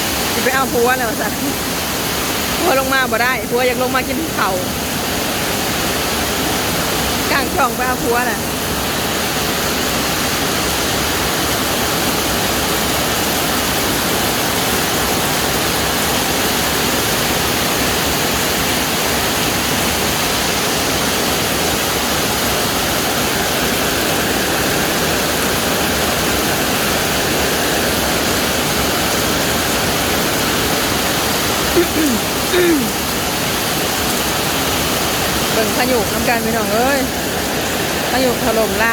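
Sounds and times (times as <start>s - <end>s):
rushing water in a storm: 0.0s - 38.9s.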